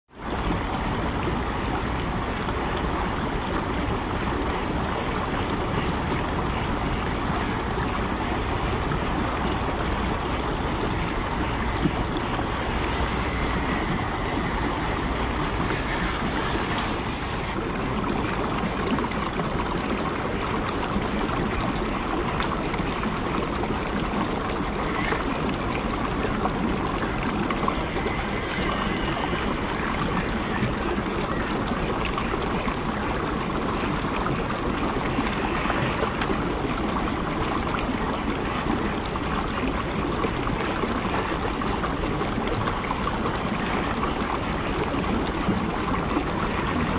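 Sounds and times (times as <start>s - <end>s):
stream running over rocks: 0.1s - 46.9s.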